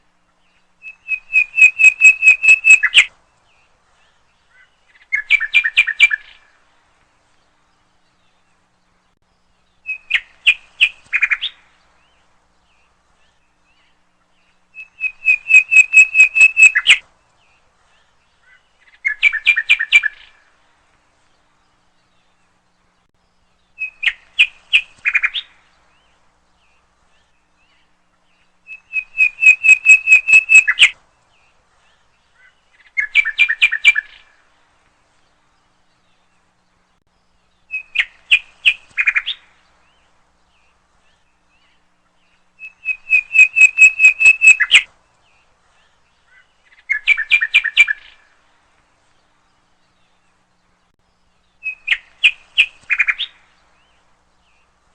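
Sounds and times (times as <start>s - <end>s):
nightingale singing: 0.3s - 6.6s, 7.6s - 20.6s, 21.4s - 34.5s, 35.5s - 48.4s, 49.2s - 54.8s.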